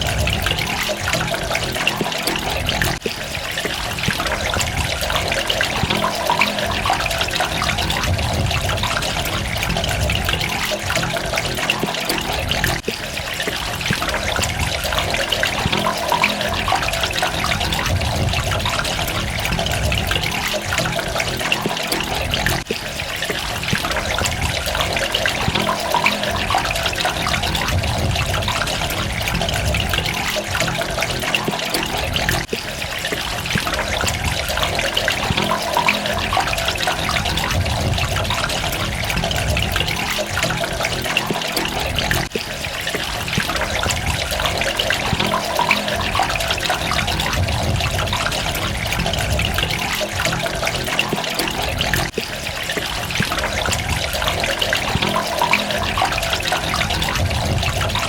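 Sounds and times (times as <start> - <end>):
trickling drops: 0.0 - 58.0
water running and splashing: 0.0 - 58.0.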